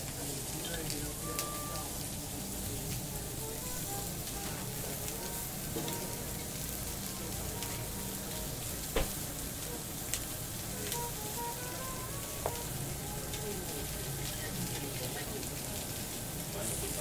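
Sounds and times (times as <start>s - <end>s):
meat sizzling on grill: 0.0s - 17.0s.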